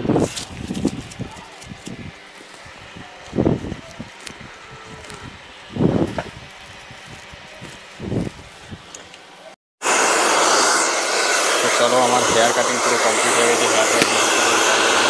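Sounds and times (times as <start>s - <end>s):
hair dryer blowing: 0.0s - 9.1s, 9.8s - 15.0s.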